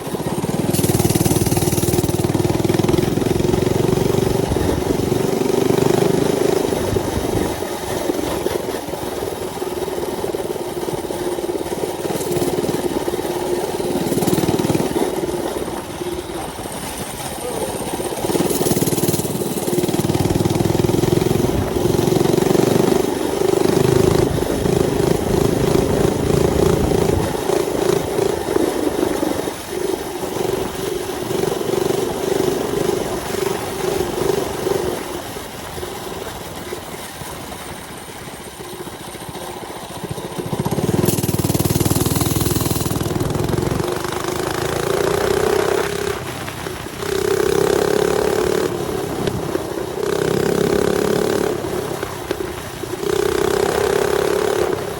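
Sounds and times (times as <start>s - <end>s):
small bike engine running: 0.0s - 54.9s.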